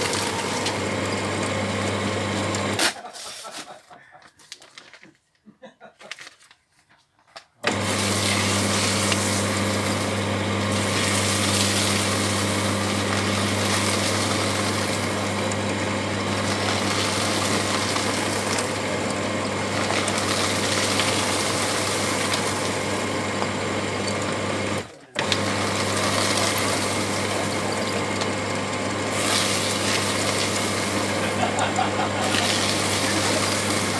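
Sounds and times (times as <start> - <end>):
paper shredder motor humming: 0.0 - 3.1, 7.6 - 33.9
shredder cutters grinding paper: 0.0 - 3.9, 7.6 - 33.9.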